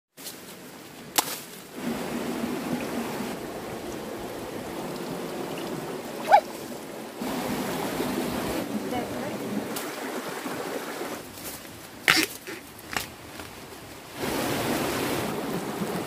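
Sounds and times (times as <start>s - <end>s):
running water rushing: 0.5s - 16.0s.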